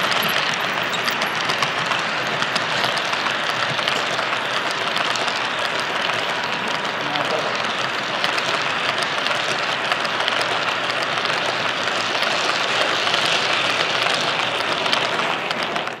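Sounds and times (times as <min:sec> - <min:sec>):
model train wheels clattering on rails: 0:00.0 - 0:16.0
rapid clicks from rail joints: 0:00.0 - 0:16.0.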